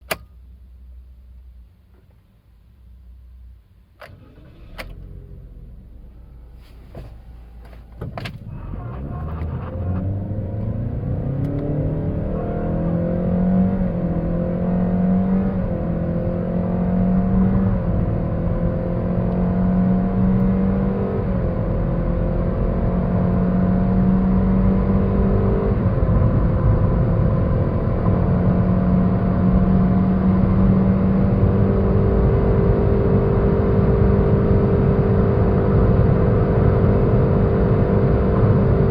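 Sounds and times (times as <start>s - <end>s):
car engine accelerating: 4.1s - 38.9s.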